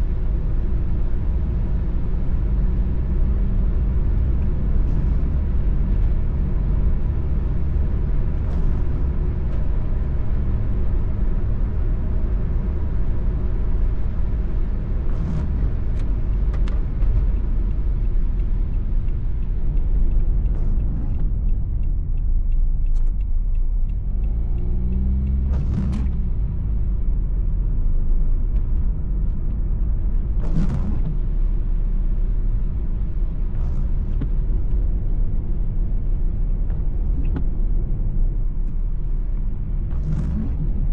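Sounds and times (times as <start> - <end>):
tyres swishing on wet road: 0.0 - 37.4, 38.4 - 40.9
engine and tyre rumble: 0.0 - 40.9.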